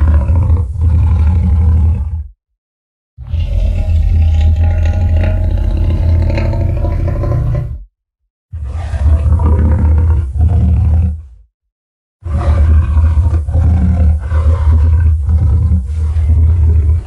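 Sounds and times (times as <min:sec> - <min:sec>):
deep dinosaur roar: 0:00.0 - 0:02.4, 0:03.2 - 0:07.9, 0:08.6 - 0:11.5, 0:12.2 - 0:17.0.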